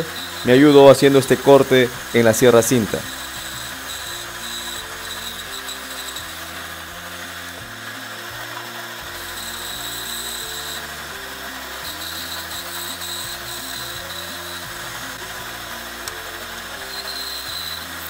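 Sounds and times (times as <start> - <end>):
background music with bass: 0.0 - 18.0
band saw cutting wood: 0.0 - 18.0.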